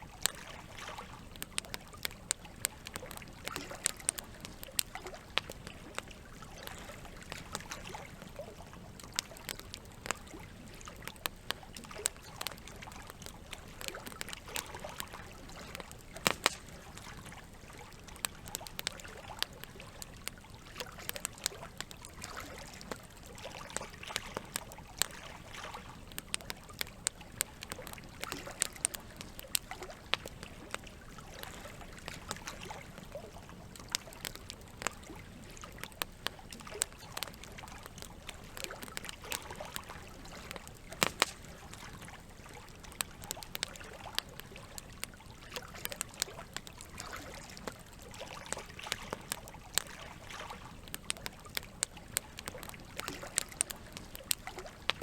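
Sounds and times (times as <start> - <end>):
flowing water trickling: 0.0 - 55.0
wood fire crackling and popping: 0.0 - 55.0.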